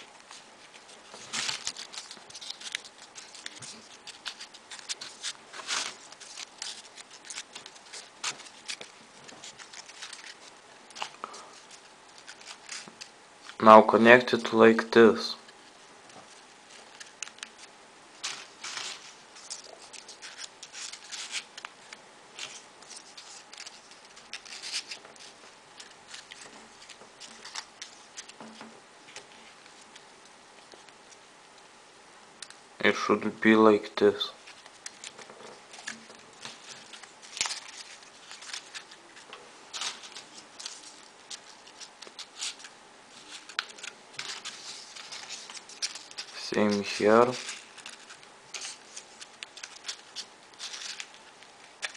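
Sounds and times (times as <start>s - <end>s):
paper rustling and crinkling: 0.0s - 14.3s, 15.4s - 31.2s, 34.3s - 51.9s.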